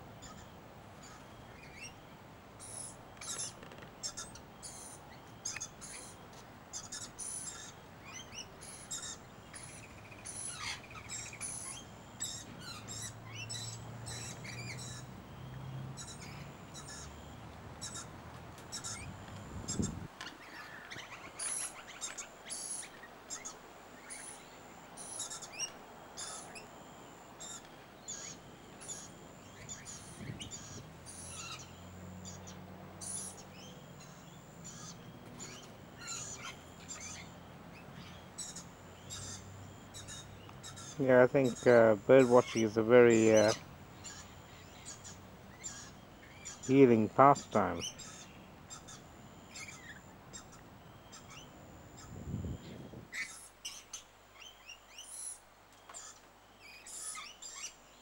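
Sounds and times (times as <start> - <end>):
birds chirping and chattering: 0.0 - 58.0.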